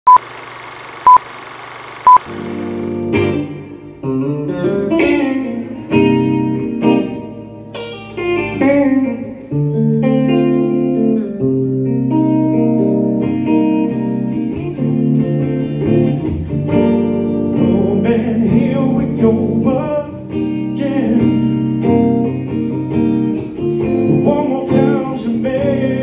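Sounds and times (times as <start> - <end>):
electric guitar chords and notes: 2.0 - 26.0.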